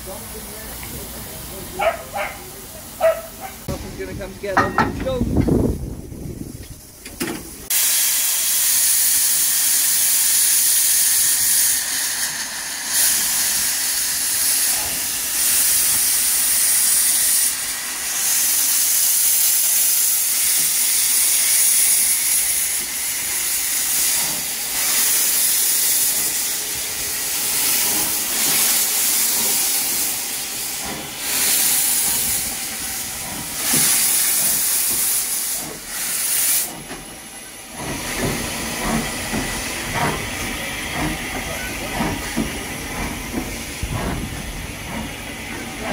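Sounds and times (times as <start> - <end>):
steam locomotive hissing: 0.0 - 45.9.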